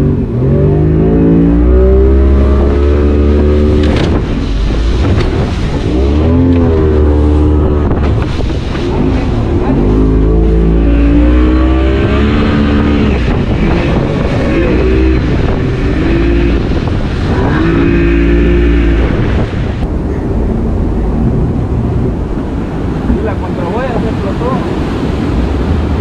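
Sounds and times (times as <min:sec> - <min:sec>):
outboard motor revving: 0:00.0 - 0:26.0
rushing water: 0:00.0 - 0:26.0.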